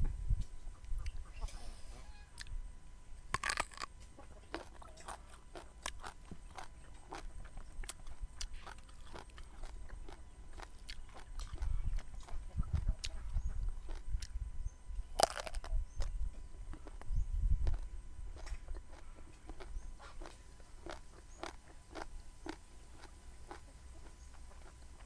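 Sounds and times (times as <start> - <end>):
chewing crunchy vegetables: 3.3 - 25.0.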